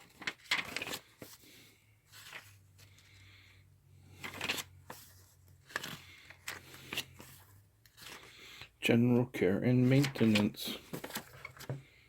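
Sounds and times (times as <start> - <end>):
paper pages turning: 0.0 - 3.2, 4.0 - 8.6, 9.8 - 12.0.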